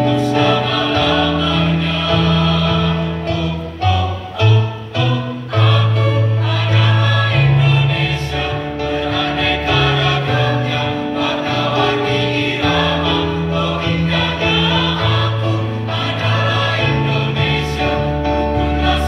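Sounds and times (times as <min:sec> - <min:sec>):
mixed choir singing in harmony: 0:00.0 - 0:19.0.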